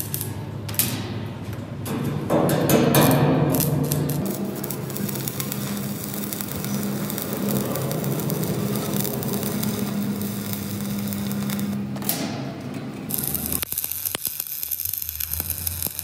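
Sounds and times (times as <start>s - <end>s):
welding arc crackling: 0.0s - 1.0s, 2.8s - 16.0s.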